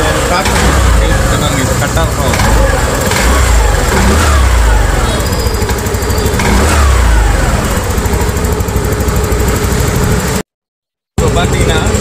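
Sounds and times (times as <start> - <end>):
scooter engine running: 0.0 - 10.5, 11.2 - 12.0.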